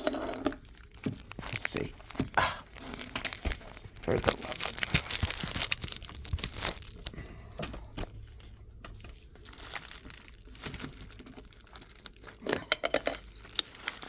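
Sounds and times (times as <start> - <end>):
packaging crinkling and rustling: 0.1 - 14.0.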